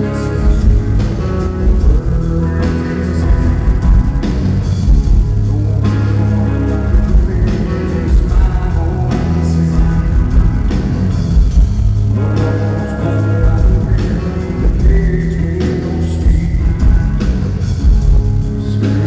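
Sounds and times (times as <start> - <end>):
bass guitar: 0.0 - 19.0
drum kit: 0.0 - 19.0
electric guitars: 0.0 - 19.0.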